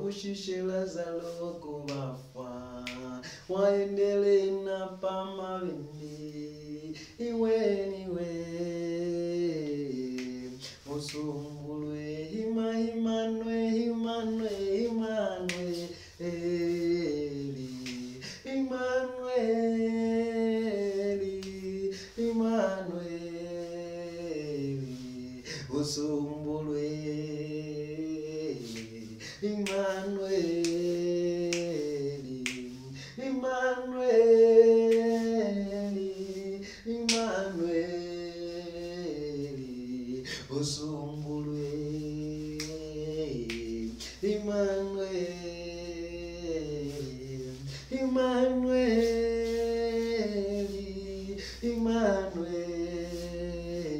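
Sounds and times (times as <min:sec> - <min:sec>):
man singing unaccompanied: 0:00.0 - 0:53.9.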